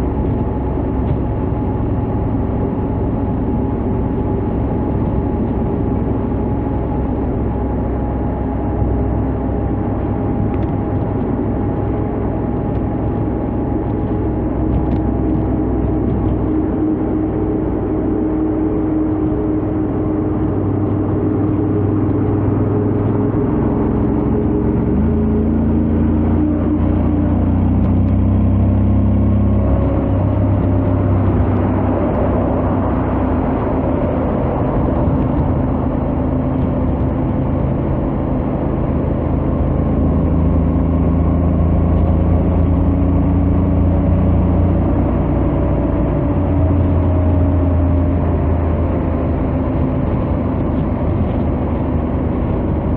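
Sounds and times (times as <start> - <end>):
motorcycle engine at highway speed: 0.0 - 52.9
wind and road noise: 0.0 - 52.9.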